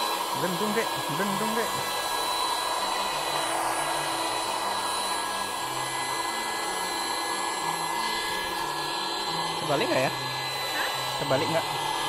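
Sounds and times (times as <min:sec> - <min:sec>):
electric air pump whining: 0:00.0 - 0:12.0.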